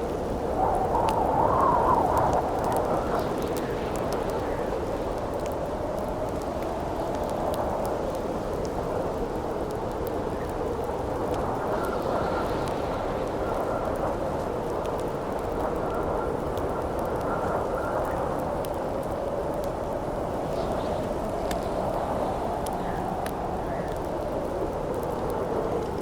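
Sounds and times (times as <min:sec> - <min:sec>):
howling wind: 0:00.0 - 0:26.0.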